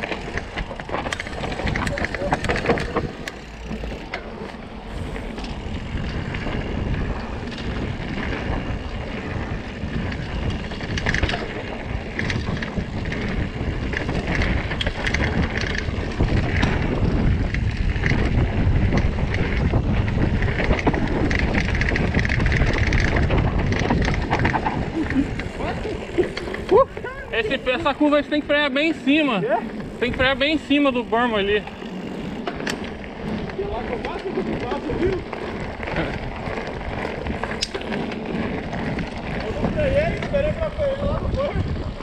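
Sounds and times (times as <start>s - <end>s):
bike rattling: 0.0s - 42.0s
tyres rolling over dirt and rock: 0.0s - 42.0s
wind rush on microphone: 0.0s - 42.0s.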